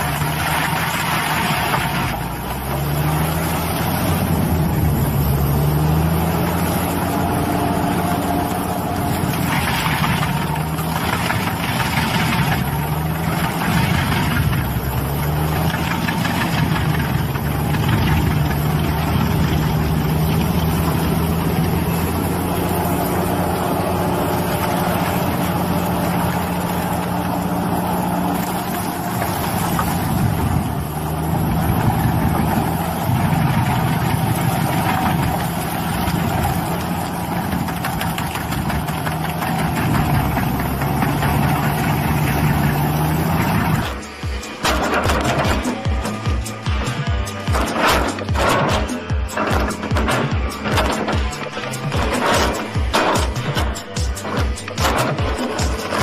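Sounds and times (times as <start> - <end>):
cutter wheel grinding wood: 0.0 - 56.0
stump grinder engine running: 0.0 - 56.0.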